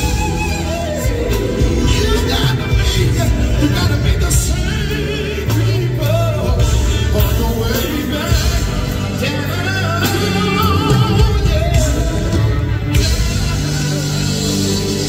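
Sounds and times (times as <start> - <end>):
bass line: 0.0 - 15.0
drums: 0.0 - 15.0
male vocal group singing: 0.0 - 15.0.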